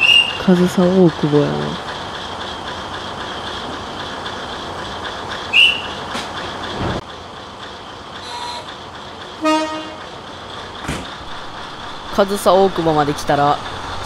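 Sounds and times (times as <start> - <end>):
diesel railcar engine running: 0.0 - 14.0.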